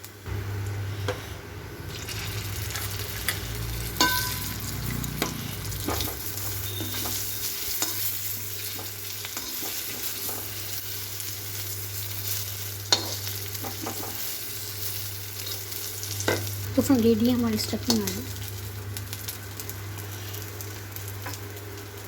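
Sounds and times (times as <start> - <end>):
potatoes sizzling in hot oil: 1.9 - 22.0.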